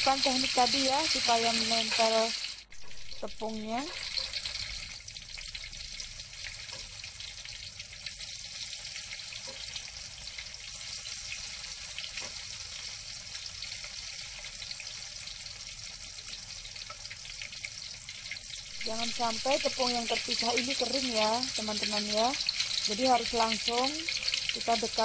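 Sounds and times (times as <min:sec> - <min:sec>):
tofu deep-frying in oil: 0:00.0 - 0:25.0.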